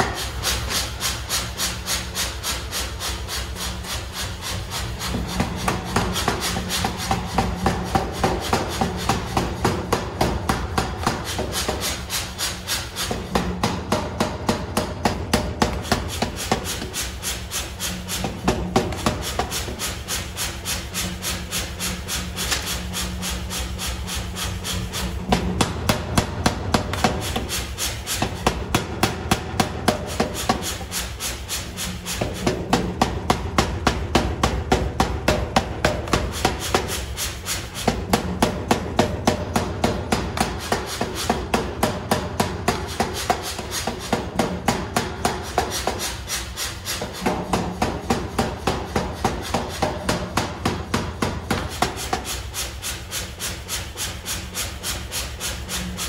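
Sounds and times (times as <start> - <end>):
power hammer pounding steel: 0.0 - 56.0.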